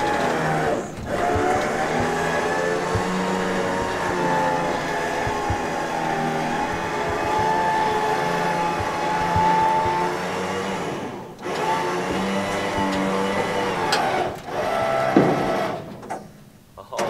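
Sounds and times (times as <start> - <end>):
electric winch motor whining: 0.0 - 16.5.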